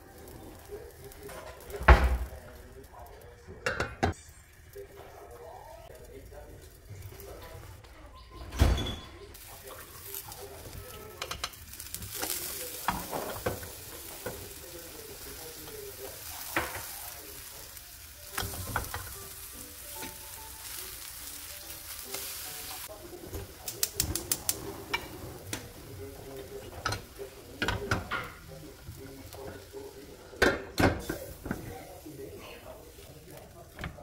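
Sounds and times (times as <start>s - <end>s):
pancakes sizzling in oil: 0.0s - 3.3s, 9.3s - 33.8s.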